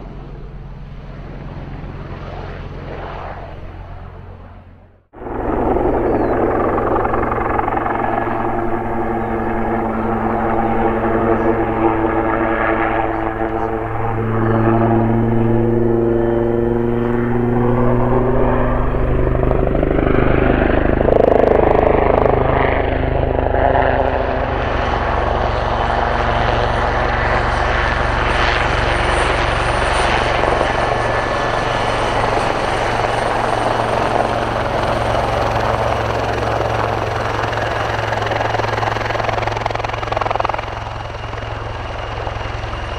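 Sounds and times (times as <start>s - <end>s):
faint high turbine whine: 0.0s - 42.9s
helicopter rotors and engines: 0.0s - 42.9s.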